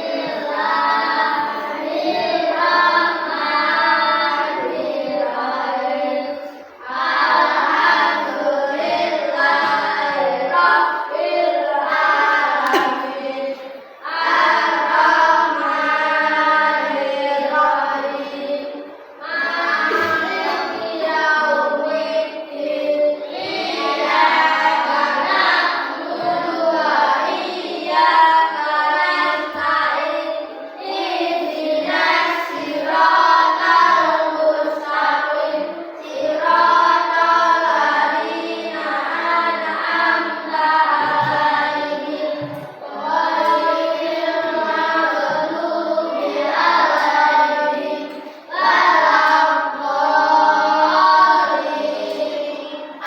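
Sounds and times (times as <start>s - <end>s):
children singing in unison: 0.0s - 53.0s.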